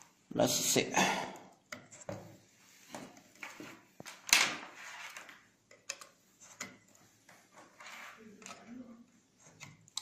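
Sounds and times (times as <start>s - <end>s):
cables being handled: 1.5s - 10.0s.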